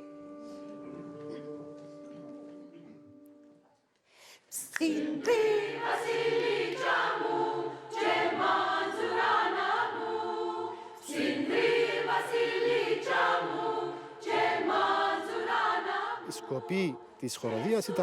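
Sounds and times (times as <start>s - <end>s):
choir singing: 0.0s - 3.5s, 4.5s - 18.0s.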